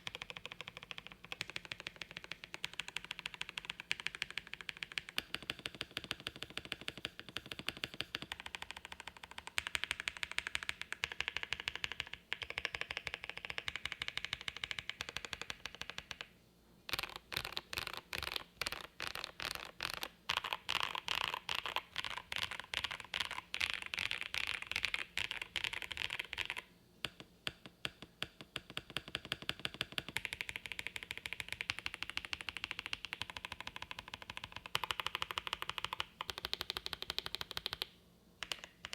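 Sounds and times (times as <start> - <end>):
fast mechanical keyboard typing: 0.0 - 16.3, 16.9 - 27.2, 28.3 - 38.9.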